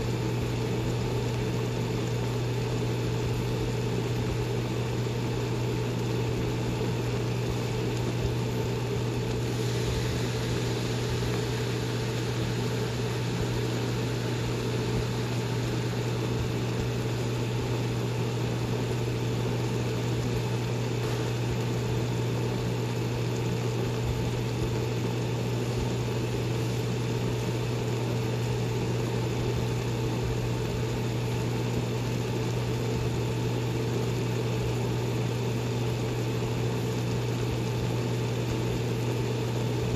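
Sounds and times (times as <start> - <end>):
kitchen appliance humming: 0.0 - 39.9.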